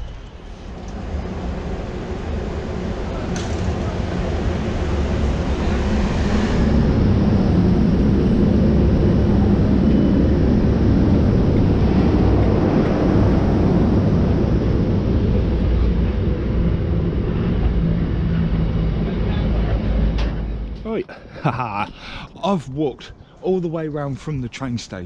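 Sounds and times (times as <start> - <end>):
freight train wheels rumbling: 0.0 - 25.0
locomotive hum: 0.0 - 25.0.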